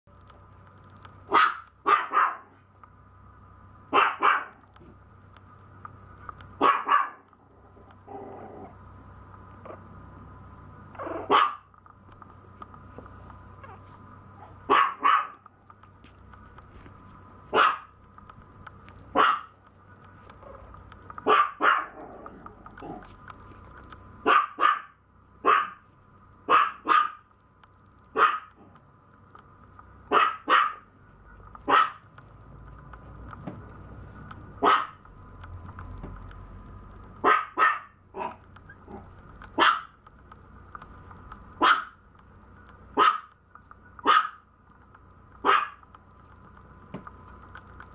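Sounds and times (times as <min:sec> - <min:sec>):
faint high hum: 0:00.1 - 0:47.9.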